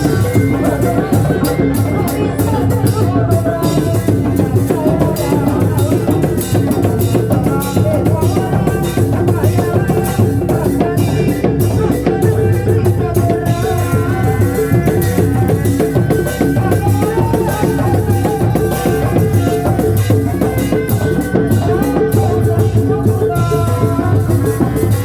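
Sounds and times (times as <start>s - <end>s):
drums and percussion: 0.0s - 25.0s.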